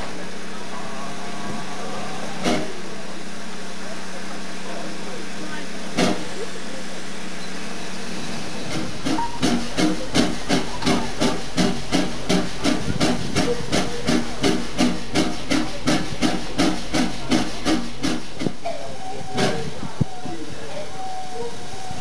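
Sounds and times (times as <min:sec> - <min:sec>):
hiss of steam: 0:00.0 - 0:22.0
steam locomotive exhaust chuffing: 0:00.0 - 0:22.0.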